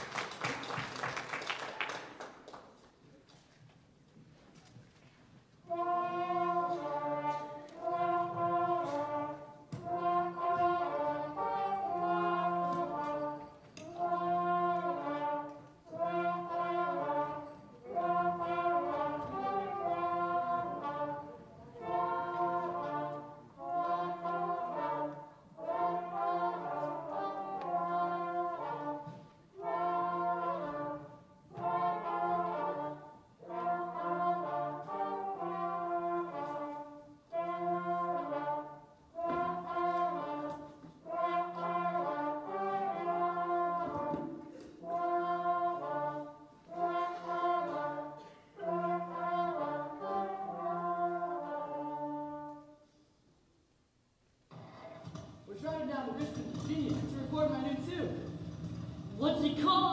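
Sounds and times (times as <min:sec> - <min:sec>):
orchestra with brass playing: 0:05.5 - 0:53.0, 0:54.5 - 0:59.9.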